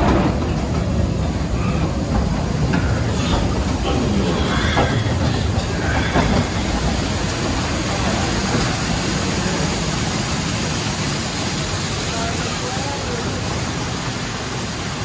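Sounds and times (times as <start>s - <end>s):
waterfall splashing: 0.0s - 15.0s.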